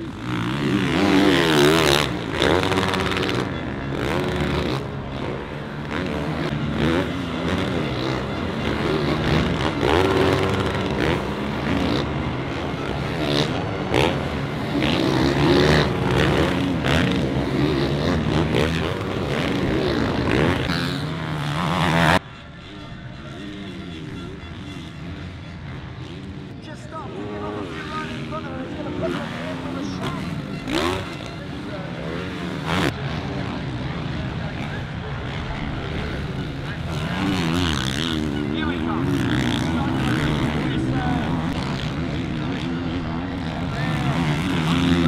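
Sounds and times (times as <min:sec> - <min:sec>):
motocross bikes revving: 0:00.0 - 0:45.0.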